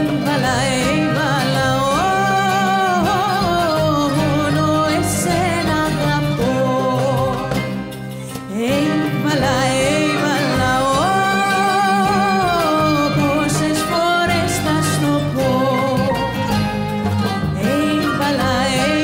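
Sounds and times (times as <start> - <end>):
frame drum and plucked strings: 0.0 - 19.0
woman singing: 0.0 - 19.0.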